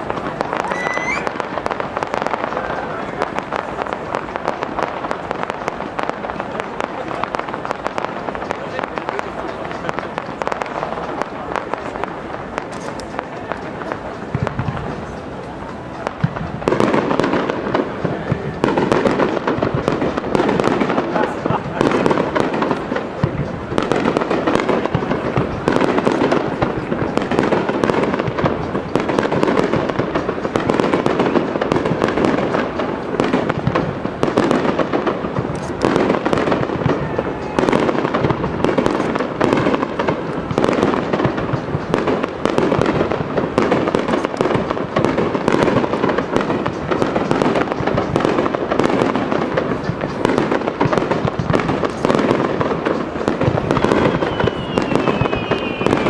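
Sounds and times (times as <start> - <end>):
fireworks bursts and crackle: 0.0 - 56.0.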